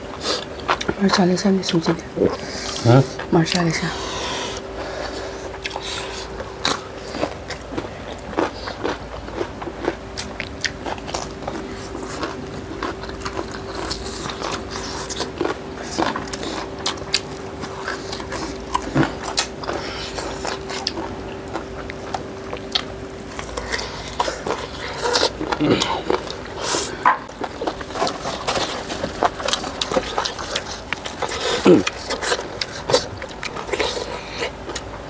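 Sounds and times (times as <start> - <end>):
faint steady hum: 0.0 - 35.0
people chewing and crunching food: 0.0 - 35.0.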